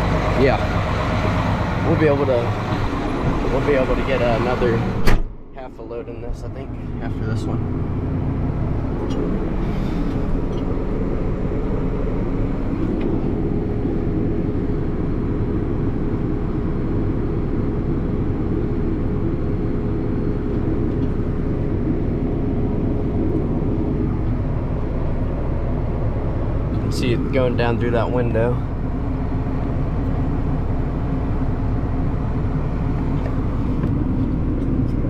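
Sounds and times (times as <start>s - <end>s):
steady hum: 0.0s - 35.0s
tractor engine running: 0.0s - 35.0s.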